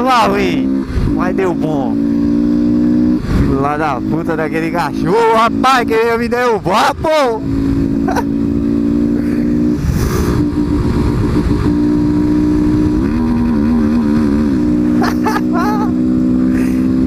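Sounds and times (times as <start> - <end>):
loud motorcycle engine running: 0.0 - 17.0.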